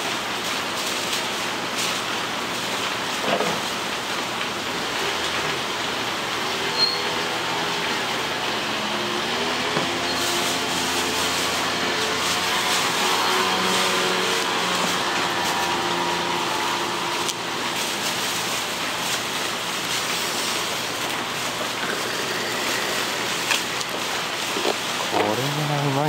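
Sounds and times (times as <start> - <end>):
steady rushing hiss: 0.0 - 26.0.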